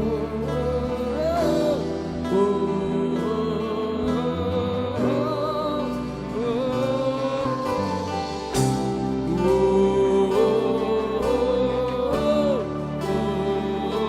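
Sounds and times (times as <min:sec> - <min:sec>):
slow gospel worship music: 0:00.0 - 0:14.0.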